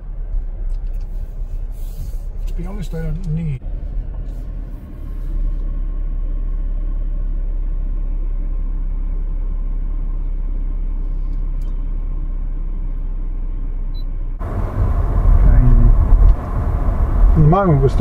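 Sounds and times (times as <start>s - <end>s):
car driving low rumble: 0.0s - 18.0s.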